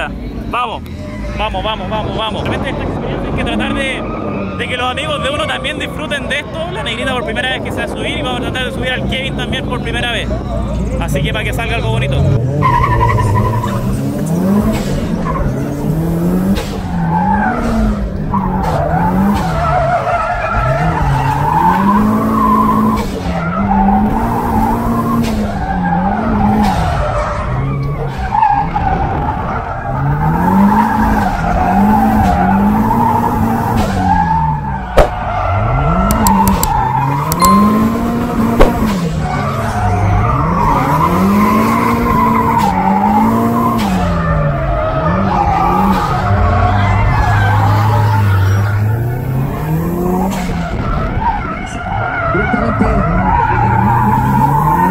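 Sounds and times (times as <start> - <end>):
car engine revving: 8.4 - 54.9.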